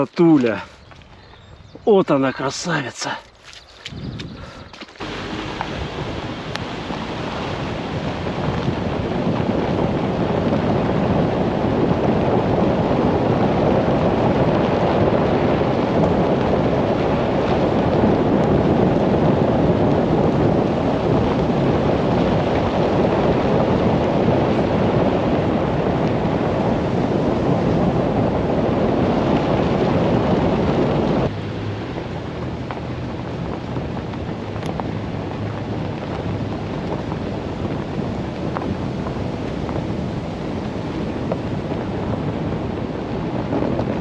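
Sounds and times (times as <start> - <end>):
wind: 0.0 - 44.0
rushing water: 4.9 - 44.0.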